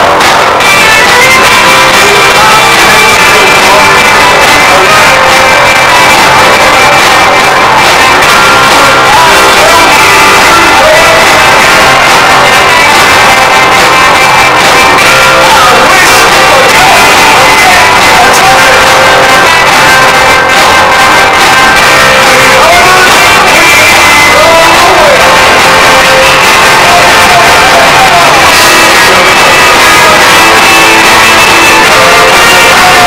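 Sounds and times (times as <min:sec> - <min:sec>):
man singing: 0:00.0 - 0:33.0.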